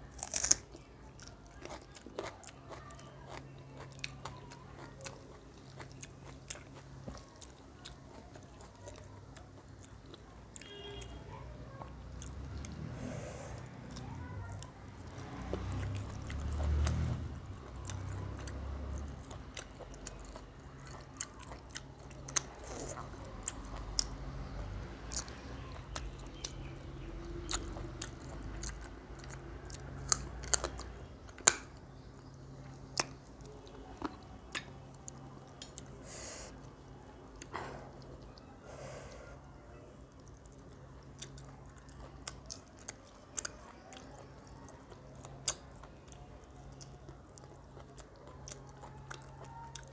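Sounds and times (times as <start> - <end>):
close-up chewing: 0.0 - 49.9.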